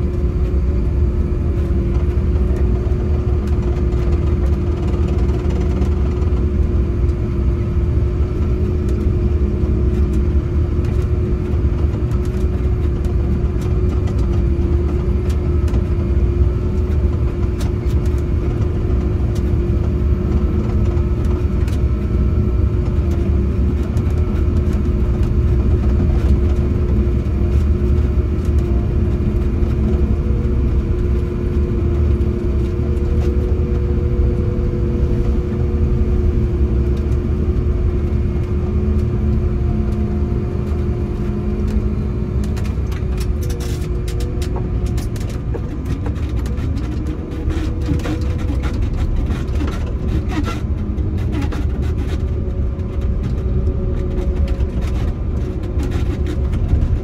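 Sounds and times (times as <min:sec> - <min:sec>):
higher whine: 0:00.0 - 0:50.0
snowcat diesel engine rumble: 0:00.0 - 0:57.0
steady engine whine: 0:00.0 - 0:57.0.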